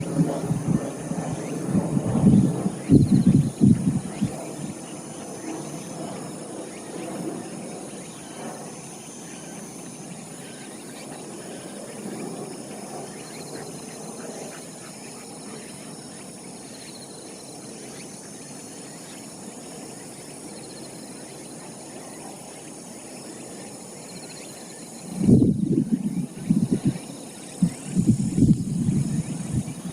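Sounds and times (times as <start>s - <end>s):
insects trilling: 0.0s - 29.9s.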